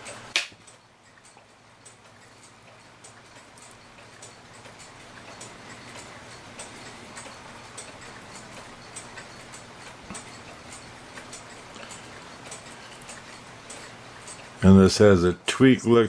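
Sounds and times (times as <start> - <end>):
mechanical clock ticking: 0.0 - 16.0.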